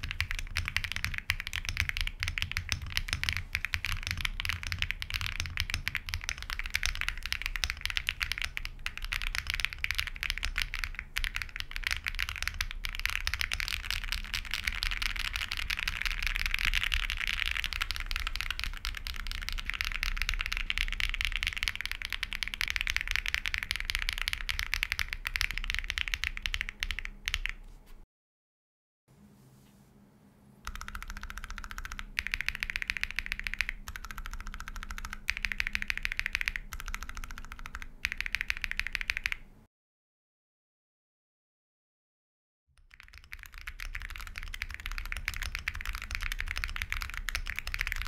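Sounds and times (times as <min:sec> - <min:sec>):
fast typing on mechanical keyboard: 0:00.0 - 0:27.6, 0:30.7 - 0:39.5, 0:42.8 - 0:48.0.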